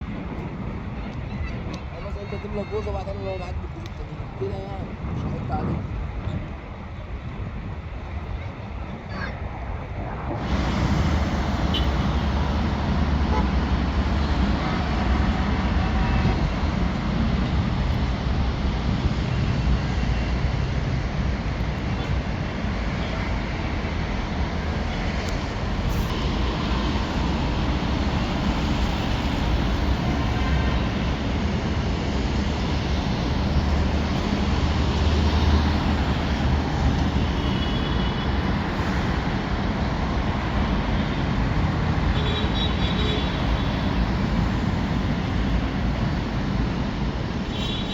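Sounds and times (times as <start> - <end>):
moving vehicle and traffic: 0.0 - 47.9.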